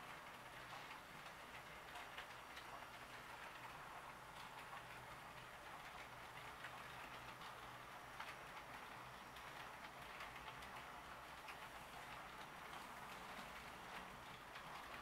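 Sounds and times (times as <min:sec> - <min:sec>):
model train wheels clicking: 0:00.0 - 0:15.0.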